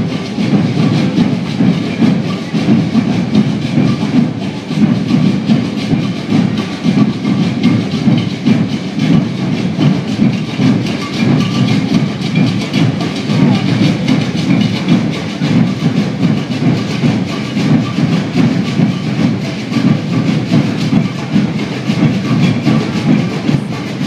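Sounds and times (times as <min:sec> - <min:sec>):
bass drums: 0:00.0 - 0:24.0
snares and shakers: 0:00.0 - 0:24.0.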